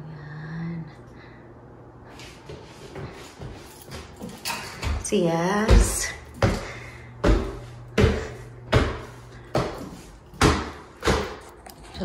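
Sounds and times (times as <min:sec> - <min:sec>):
footsteps climbing indoor stairs: 0:02.0 - 0:12.0.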